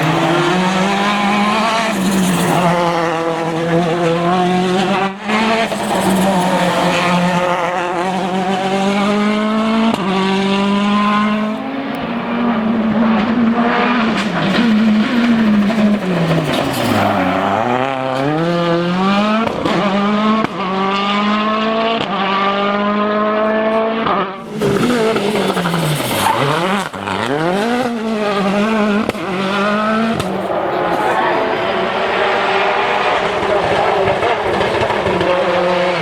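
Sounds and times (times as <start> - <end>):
rally car engine at high revs: 0.0 - 36.0.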